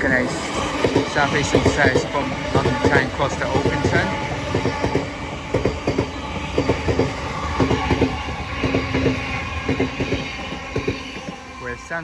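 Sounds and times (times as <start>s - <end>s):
train wheels clicking over track: 0.0s - 11.6s
steady train rumble: 0.0s - 12.0s.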